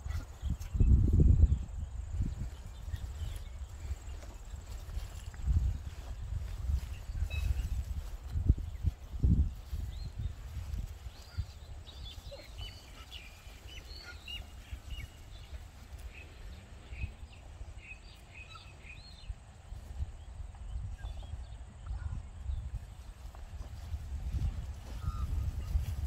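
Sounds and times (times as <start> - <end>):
small birds chirping: 0.0 - 26.0
wind rumble on microphone: 0.0 - 26.0.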